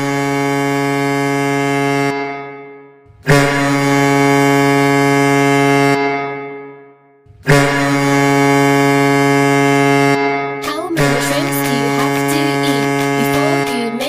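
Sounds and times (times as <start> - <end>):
hockey goal horn blasts: 0.0 - 14.0.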